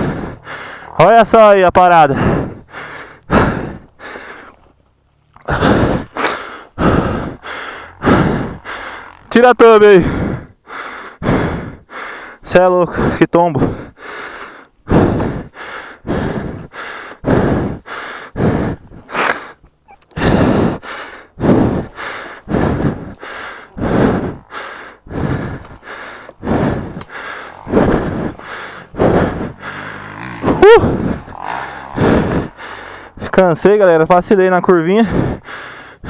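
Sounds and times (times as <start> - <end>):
person breathing hard: 0.0 - 4.8, 5.4 - 36.0.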